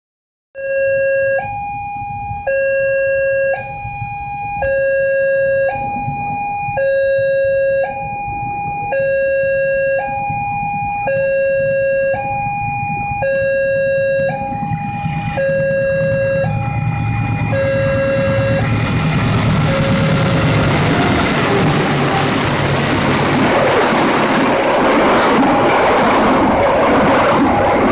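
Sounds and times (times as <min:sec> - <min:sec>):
level crossing two-tone signal: 0:00.6 - 0:25.0
train approaching: 0:04.8 - 0:27.9.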